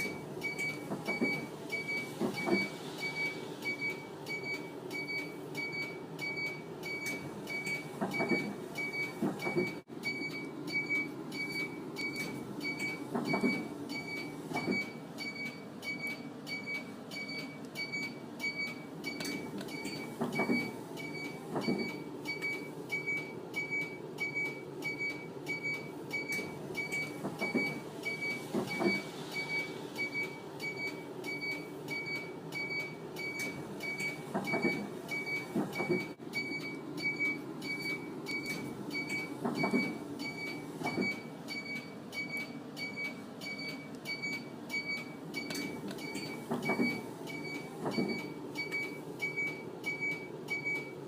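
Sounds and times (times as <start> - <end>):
high electronic warning beep: 0.0 - 51.0.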